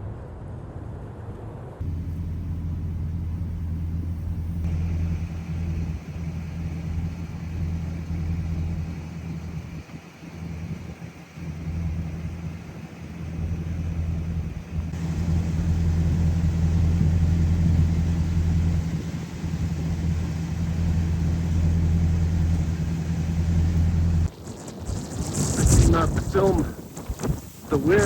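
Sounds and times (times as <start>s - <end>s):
car rumbling on the move: 1.8s - 28.0s.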